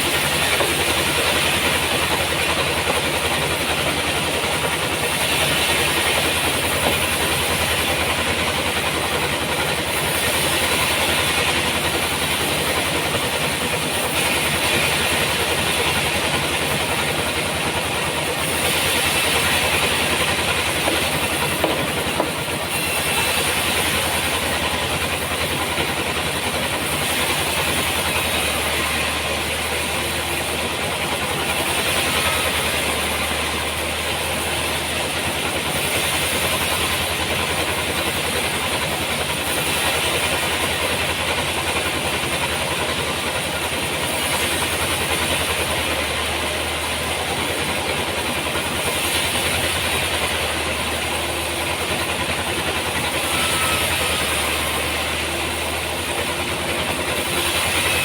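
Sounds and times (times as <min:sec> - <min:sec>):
sawmill cutting log: 0:00.0 - 0:58.0.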